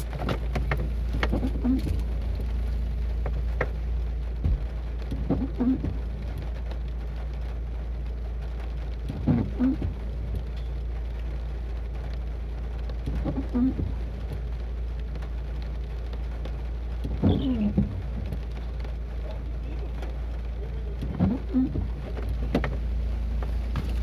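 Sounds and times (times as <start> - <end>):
car engine idling: 0.0 - 24.0
rain on car body: 0.0 - 24.0.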